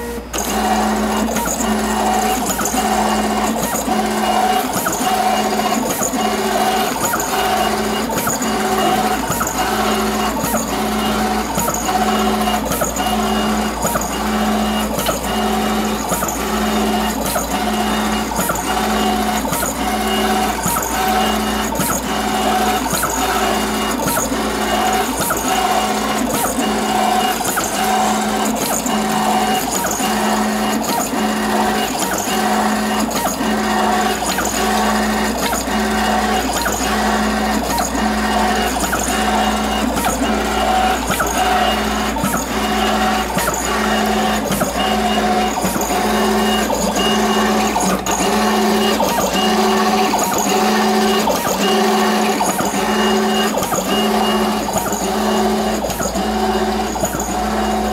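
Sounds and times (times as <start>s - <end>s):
plotter motors humming: 0.0s - 57.9s.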